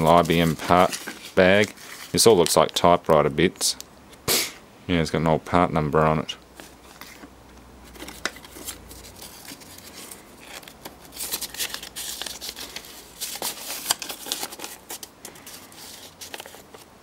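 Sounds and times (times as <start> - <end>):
plastic bags and paper rustling: 0.0 - 3.2, 6.6 - 17.0.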